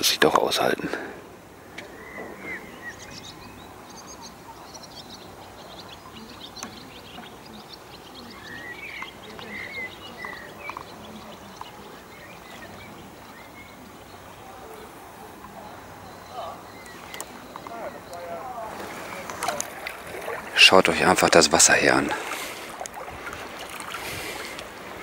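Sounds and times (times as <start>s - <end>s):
birds chirping: 0.0s - 25.0s
faint outdoor hiss: 0.0s - 25.0s.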